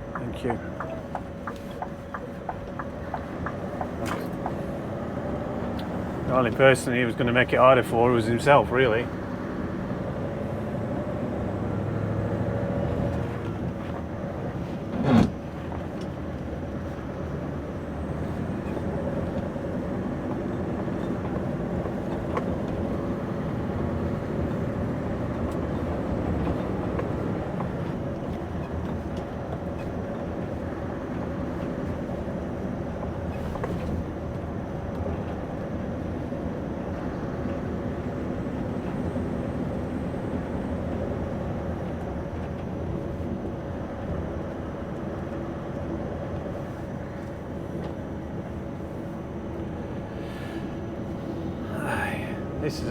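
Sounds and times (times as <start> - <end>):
constant whine: 0.0 - 52.9
lorry engine drone: 0.0 - 52.9
road noise: 0.0 - 52.9.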